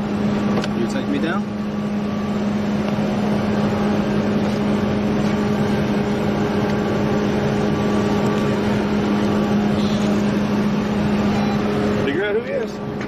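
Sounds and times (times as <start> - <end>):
car engine idling: 0.0 - 13.0
noise wash: 0.0 - 13.0.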